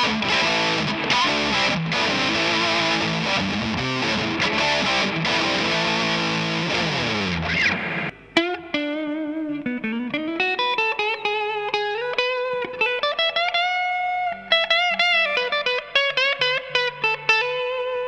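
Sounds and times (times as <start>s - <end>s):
clean electric guitar lead line: 0.0s - 18.0s.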